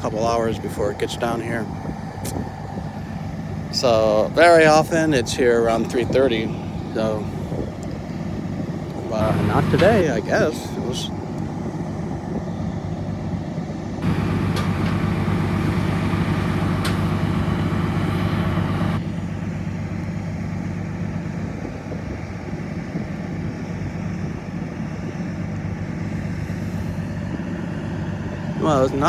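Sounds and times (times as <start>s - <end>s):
heavy trucks idling: 0.0s - 29.0s.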